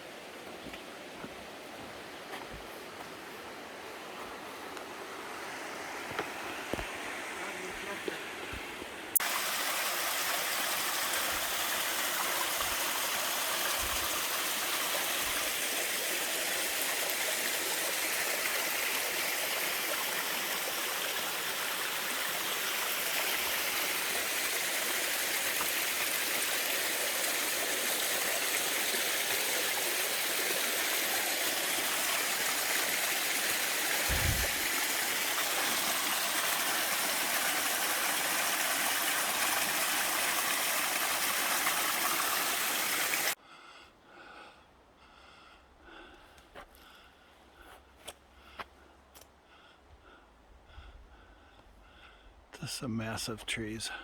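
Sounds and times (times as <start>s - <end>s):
stream rushing: 0.0s - 43.4s.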